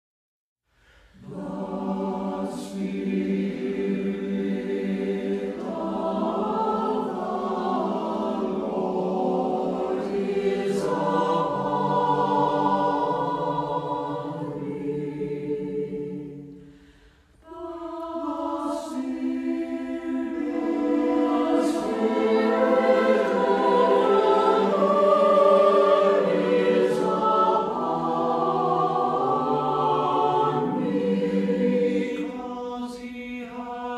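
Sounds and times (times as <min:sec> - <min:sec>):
choir singing sustained chords: 0:01.1 - 0:33.9.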